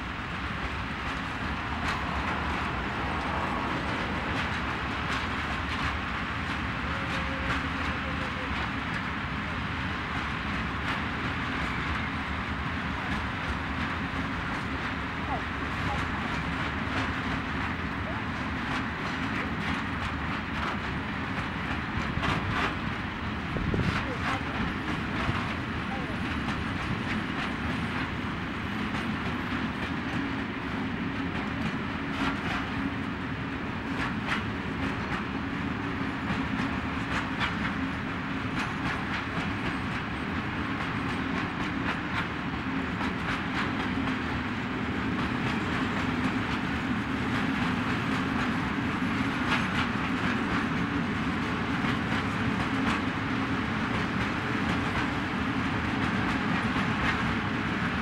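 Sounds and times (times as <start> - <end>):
wheel-on-rail rumble: 0.0 - 58.0
wheels clacking over rail joints: 0.0 - 58.0.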